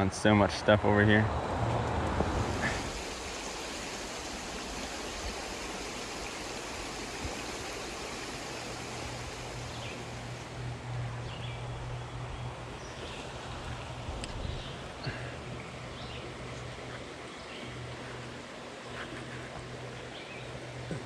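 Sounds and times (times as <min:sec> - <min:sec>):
creek water running over rocks: 0:01.7 - 0:21.0.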